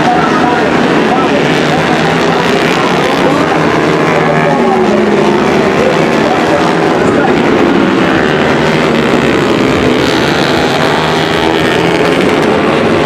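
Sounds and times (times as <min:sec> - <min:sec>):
motorcycles racing at high revs: 0:00.0 - 0:13.0.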